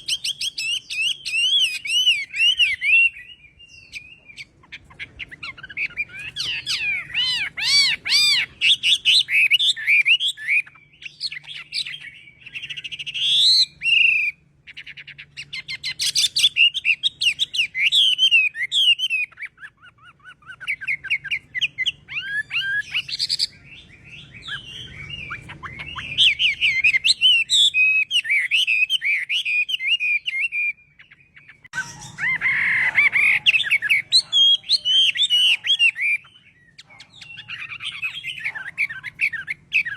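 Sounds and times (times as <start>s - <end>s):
bird singing whistled trills: 0.0s - 39.9s.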